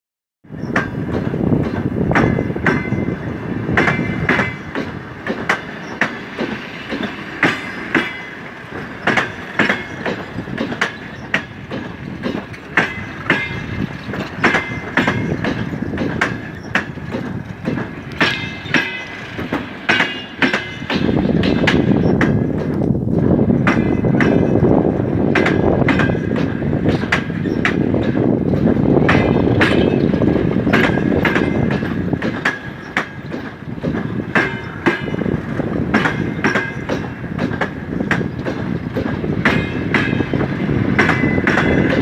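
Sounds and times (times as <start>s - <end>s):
train rolling rumble: 0.4s - 42.0s
train wheels clattering over rail joints: 0.5s - 42.0s.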